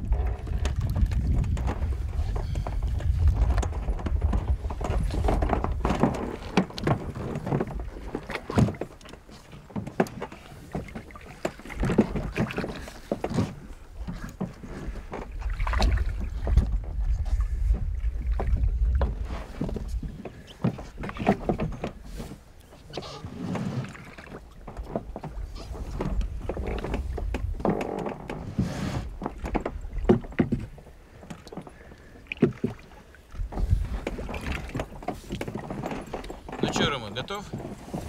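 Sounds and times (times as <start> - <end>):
wind rumbling on microphone: 0.0 - 9.1, 10.6 - 31.0, 32.6 - 38.0
water slapping against boat: 0.0 - 38.0.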